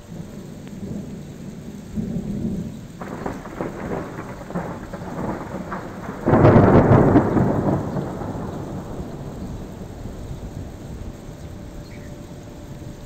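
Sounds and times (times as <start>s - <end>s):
steady rain: 0.0s - 13.0s
thunder rumbling: 0.0s - 13.0s
loud peal of thunder: 0.9s - 12.4s.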